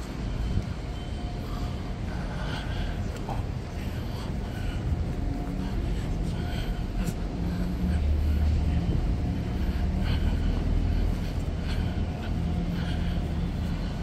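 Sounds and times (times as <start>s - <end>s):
faint hum: 0.0s - 14.0s
low machine rumble: 0.0s - 14.0s.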